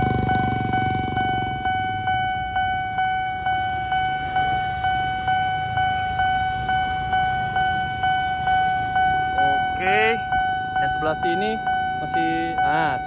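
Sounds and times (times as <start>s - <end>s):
level crossing bell ringing: 0.0s - 13.0s
motorcycle engines: 0.0s - 13.0s.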